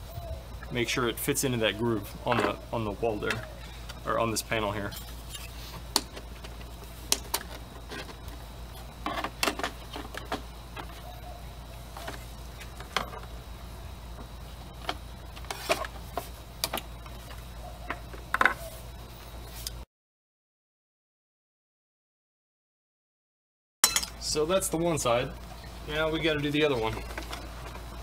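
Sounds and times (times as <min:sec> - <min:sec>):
steady low hum: 0:00.0 - 0:19.9, 0:23.8 - 0:28.0.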